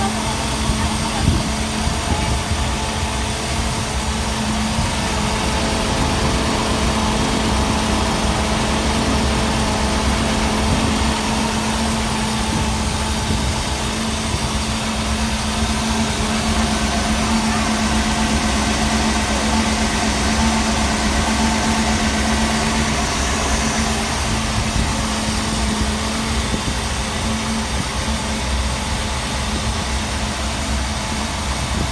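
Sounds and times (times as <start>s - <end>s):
boat engine idling: 0.0s - 31.9s.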